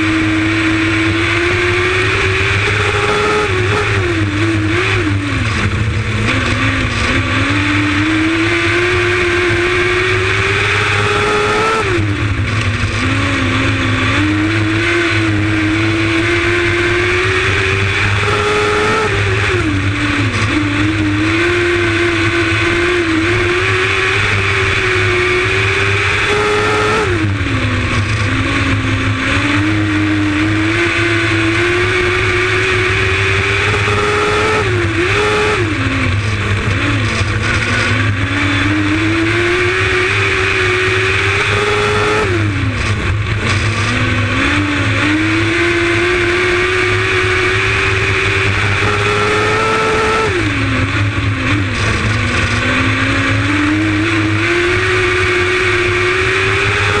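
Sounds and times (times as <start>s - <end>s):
race car engine at speed: 0.0s - 57.0s.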